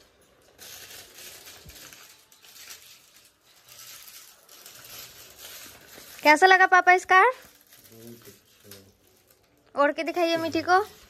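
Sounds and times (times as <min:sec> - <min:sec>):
fabric rustling and crinkling: 0:00.0 - 0:11.0.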